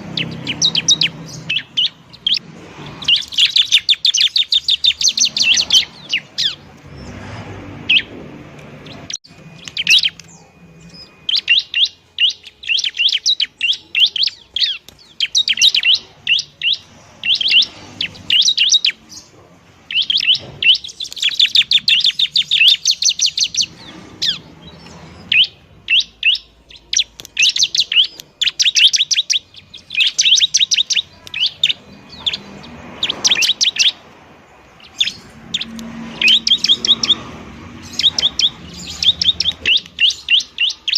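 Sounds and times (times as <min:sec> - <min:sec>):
bird rapid high chirps: 0:00.0 - 0:40.9.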